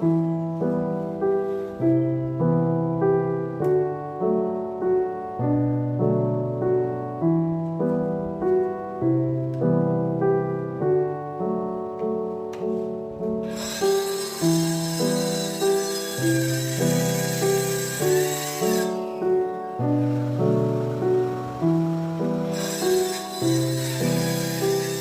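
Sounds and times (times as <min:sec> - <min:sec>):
calm piano music: 0:00.0 - 0:25.0.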